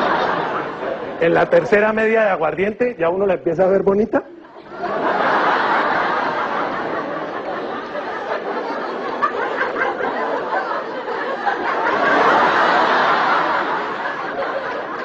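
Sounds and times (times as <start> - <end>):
studio audience laughing: 0.0 - 1.8, 4.3 - 15.0.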